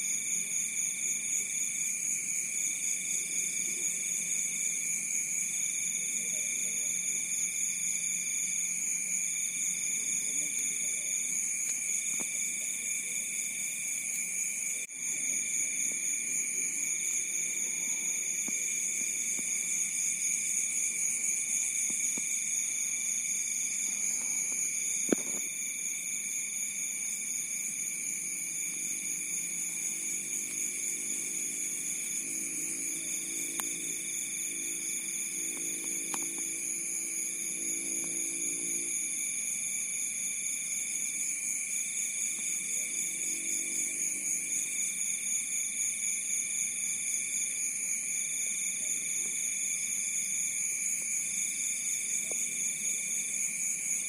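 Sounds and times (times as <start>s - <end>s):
crickets trilling: 0.0s - 54.0s
single cricket singing: 0.0s - 54.0s.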